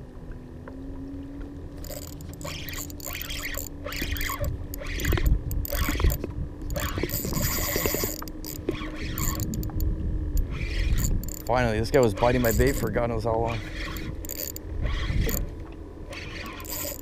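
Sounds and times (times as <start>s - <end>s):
steady low hum: 0.0s - 17.0s
fishing reel being cranked: 1.8s - 9.8s, 10.4s - 15.5s, 16.1s - 17.0s.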